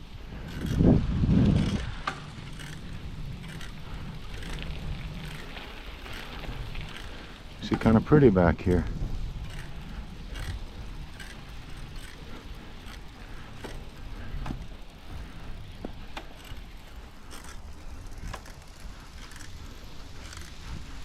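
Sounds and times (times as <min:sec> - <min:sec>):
bicycle clicks and rattles: 0:00.0 - 0:21.0
bicycle riding rumble: 0:00.0 - 0:21.0.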